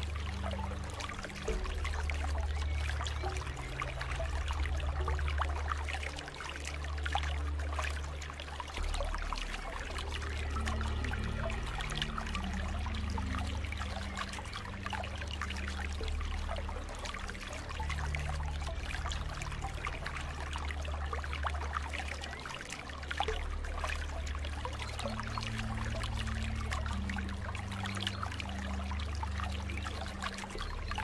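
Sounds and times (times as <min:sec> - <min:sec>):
low steady hum: 0:00.0 - 0:31.0
pool water trickling and splashing: 0:00.0 - 0:31.0.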